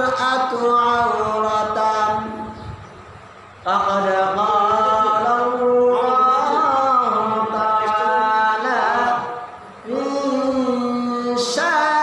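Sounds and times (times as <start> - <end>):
man chanting melodic recitation: 0.0 - 2.8, 3.6 - 12.0.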